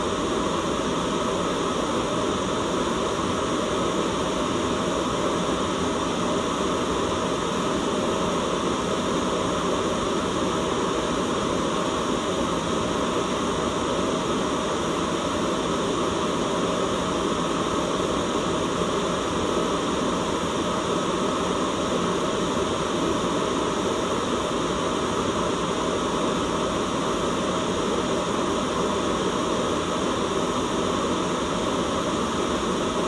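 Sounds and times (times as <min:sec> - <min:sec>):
white noise hiss: 0:00.0 - 0:33.0.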